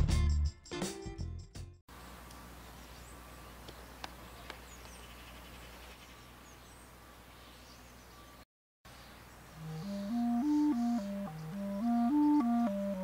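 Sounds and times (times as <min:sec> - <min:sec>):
small birds chirping: 0:02.3 - 0:13.0.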